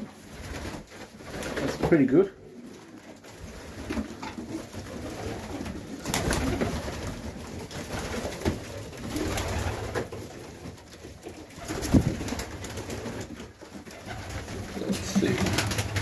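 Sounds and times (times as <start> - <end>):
sharp knocks and rustles: 0.0 - 16.0.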